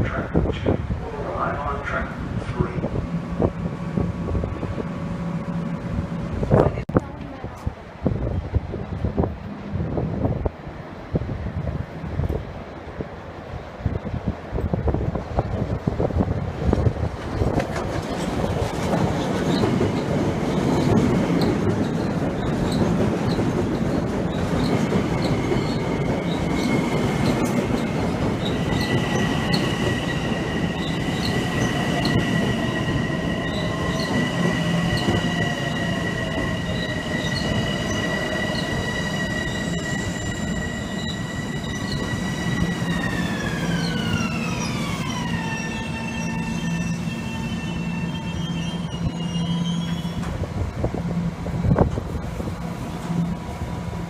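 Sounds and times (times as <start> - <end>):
high steady train whine: 0.0 - 54.0
train wheels rumbling on rail: 0.0 - 54.0.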